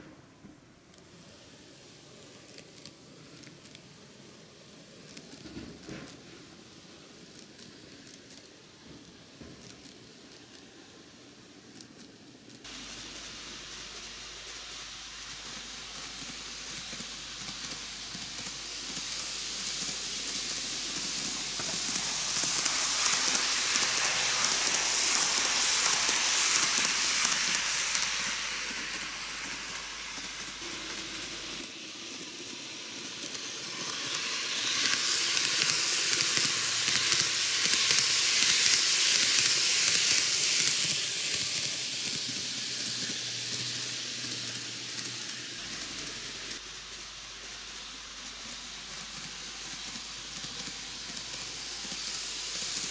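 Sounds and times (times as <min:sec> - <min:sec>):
model train running on track: 0:00.8 - 0:52.9.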